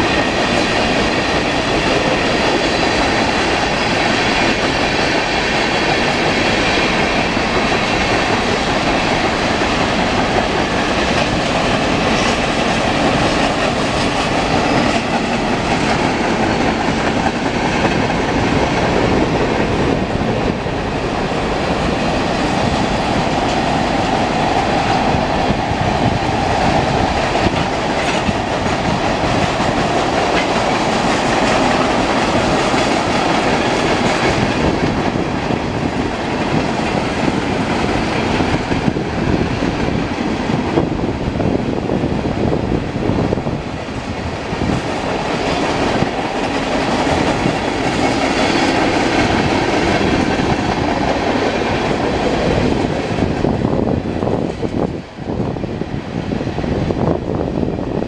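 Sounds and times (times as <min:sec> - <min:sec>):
wheels clacking over rail joints: 0:00.0 - 0:40.9, 0:43.7 - 0:53.6
freight train rolling past: 0:00.0 - 0:58.0.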